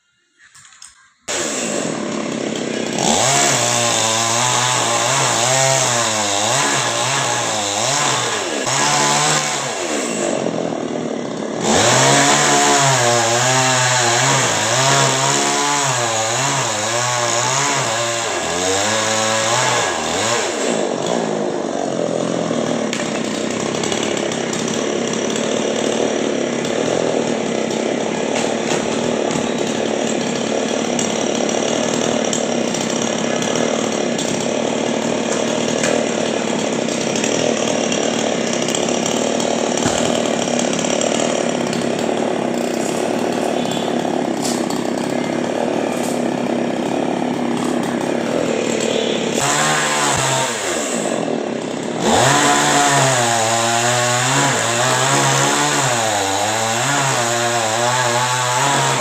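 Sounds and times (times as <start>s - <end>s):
chainsaw cutting wood: 1.3s - 59.0s.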